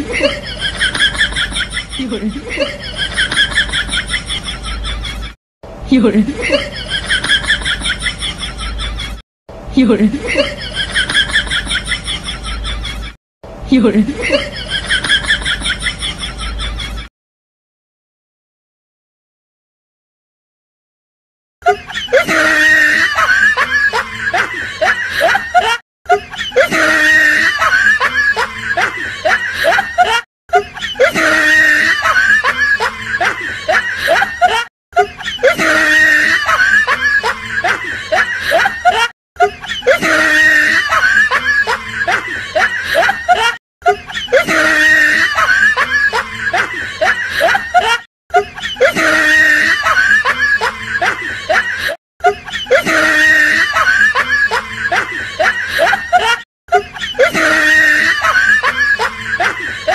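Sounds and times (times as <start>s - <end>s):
snickering and cackling laughter: 0.0s - 5.4s, 6.1s - 9.2s, 10.0s - 13.2s, 13.8s - 17.1s, 21.6s - 59.9s.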